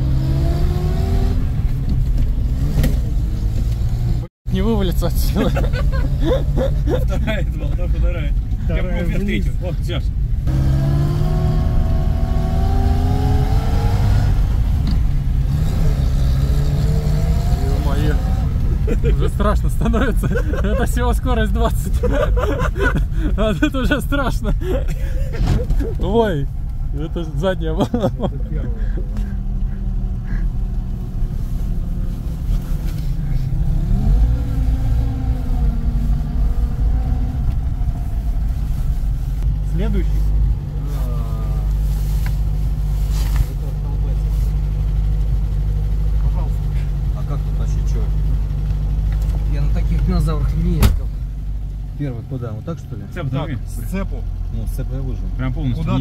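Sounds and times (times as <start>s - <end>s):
car engine in gear: 0.0s - 4.3s, 4.9s - 56.0s.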